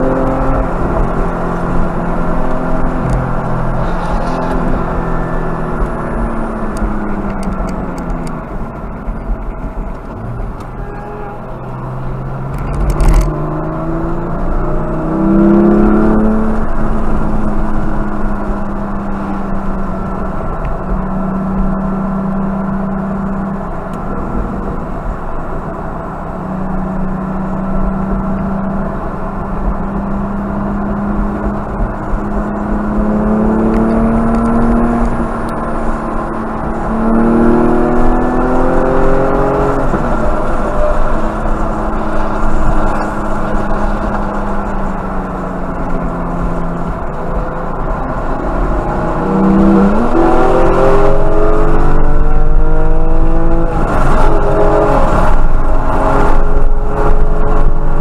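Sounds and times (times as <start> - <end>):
car engine accelerating: 0.0 - 58.0
tyre and road noise: 0.0 - 58.0.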